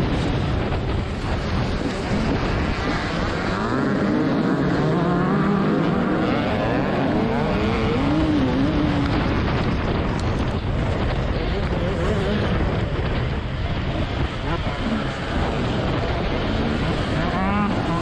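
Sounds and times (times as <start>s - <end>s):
two-stroke motorcycle engine revving: 0.0s - 18.0s
wind noise: 0.0s - 18.0s.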